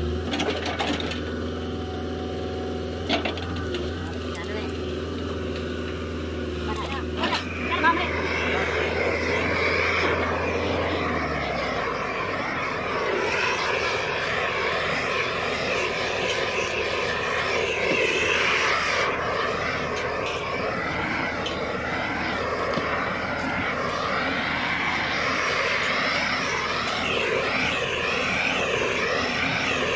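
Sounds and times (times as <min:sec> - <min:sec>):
low engine hum: 0:00.0 - 0:29.9
propane torch burning: 0:00.0 - 0:29.9.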